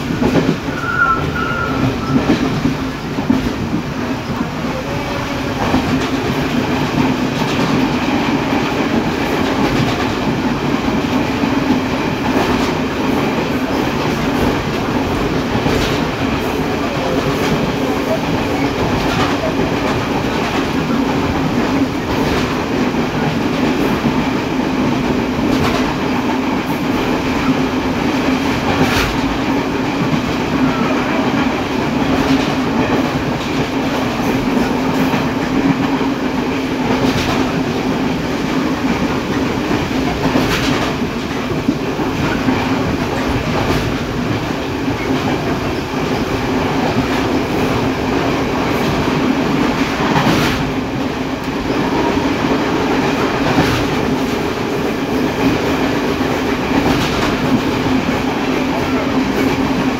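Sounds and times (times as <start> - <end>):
train rolling rumble: 0.0 - 59.9
wheels clacking on rail joints: 0.0 - 59.9.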